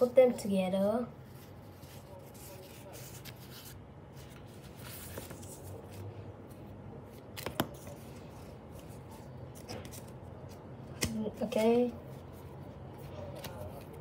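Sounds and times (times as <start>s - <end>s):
paper rustling: 1.2s - 10.6s, 11.4s - 14.0s.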